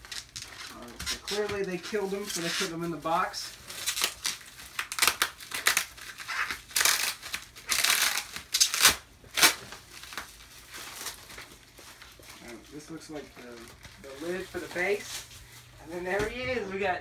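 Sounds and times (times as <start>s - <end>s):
plastic wrap crinkling: 0.0s - 16.7s.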